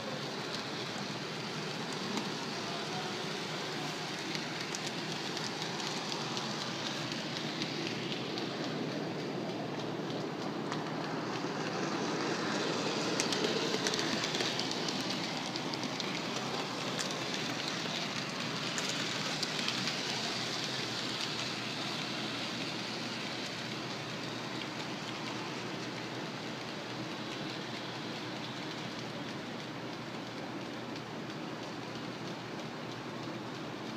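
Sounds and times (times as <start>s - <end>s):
model train whirring on track: 0.0s - 33.9s.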